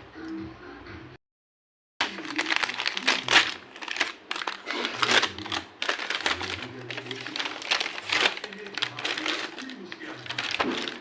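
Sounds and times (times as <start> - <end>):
packaging crinkling: 2.0 - 11.0.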